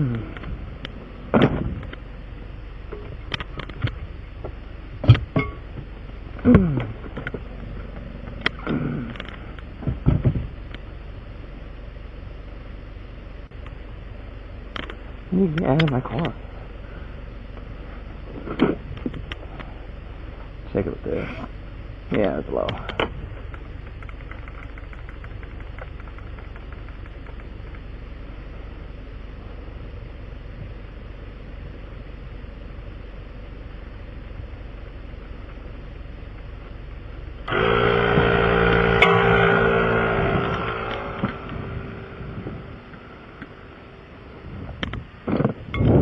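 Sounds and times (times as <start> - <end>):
loud steady-pitched engine: 0.0 - 46.0
vehicle engine running: 0.0 - 46.0.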